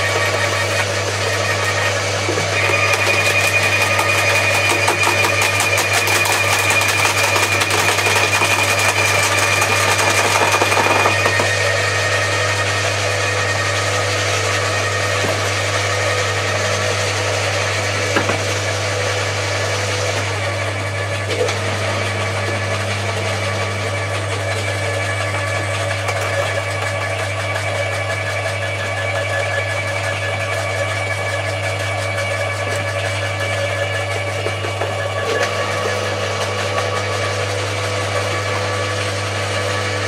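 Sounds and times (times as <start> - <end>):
garden shredder motor hum: 0.0 - 40.0.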